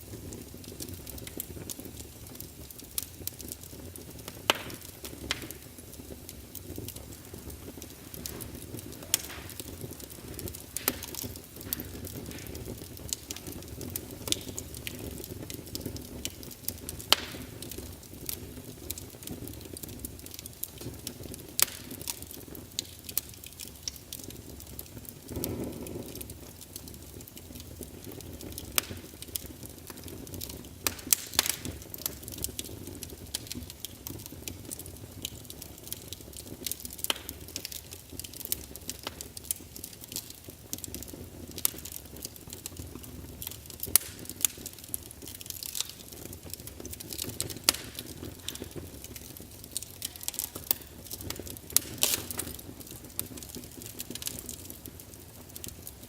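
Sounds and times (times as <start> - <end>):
logs crackling in fireplace: 0.0 - 56.0.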